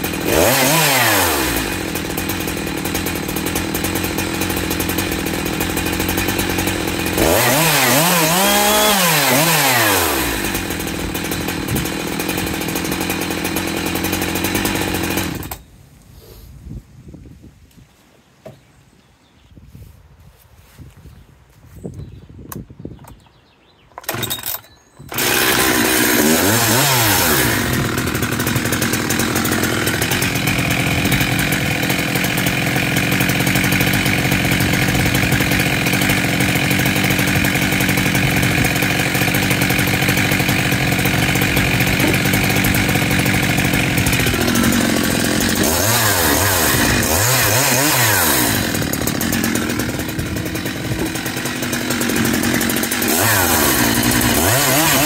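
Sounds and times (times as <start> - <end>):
chainsaw pull cord: 0.0 - 15.6, 24.0 - 55.0
chainsaw idling and revving: 0.0 - 15.7, 24.0 - 55.0.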